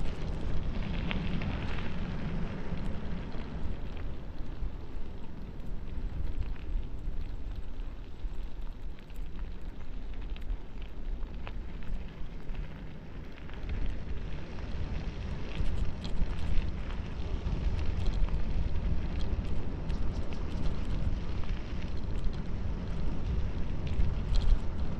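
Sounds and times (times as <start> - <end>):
bicycle tyres on dirt road: 0.0 - 24.9
small clicks and ticks: 0.0 - 24.9
wind buffeting microphone: 0.0 - 24.9.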